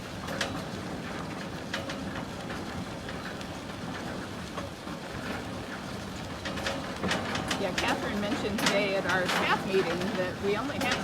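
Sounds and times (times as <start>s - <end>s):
light clicks and rattles: 0.0s - 11.0s.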